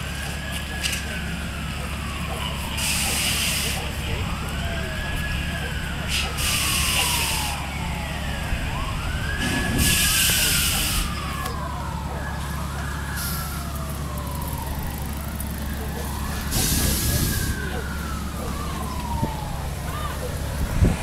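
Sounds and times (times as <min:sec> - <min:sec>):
emergency siren wailing: 0:00.0 - 0:21.0.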